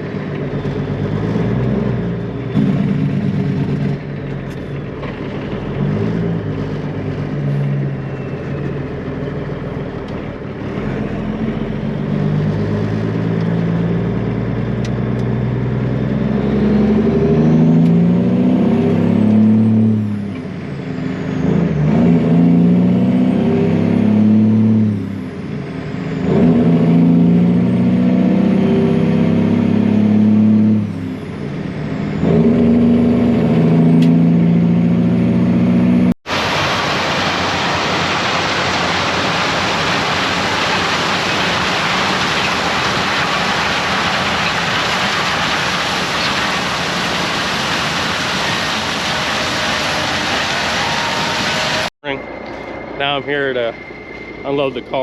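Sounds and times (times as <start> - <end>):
truck engine accelerating: 0.0 - 55.0.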